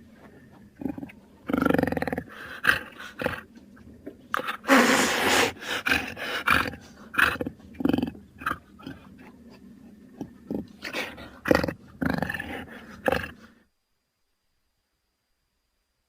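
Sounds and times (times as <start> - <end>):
jaguar growling and snarling: 0.0 - 13.6.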